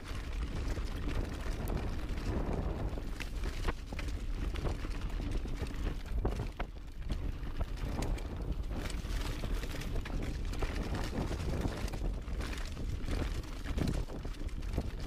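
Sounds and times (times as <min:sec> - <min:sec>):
bike clicks and rattles: 0:00.0 - 0:15.0
tyres rumbling over dirt: 0:00.0 - 0:15.0
wind buffeting microphone: 0:00.0 - 0:15.0.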